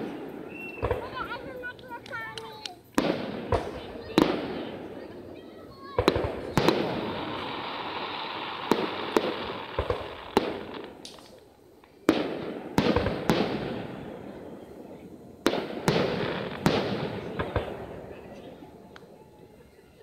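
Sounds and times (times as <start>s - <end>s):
firework shells bursting: 0.0s - 4.9s, 5.9s - 14.4s, 15.4s - 18.2s.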